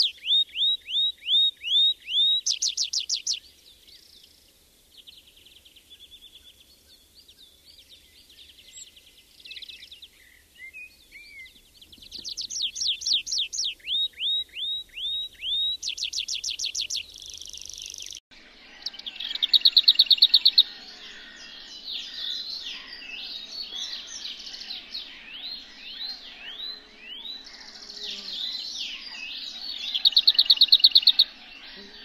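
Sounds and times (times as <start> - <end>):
songbirds singing: 0.0 - 32.0.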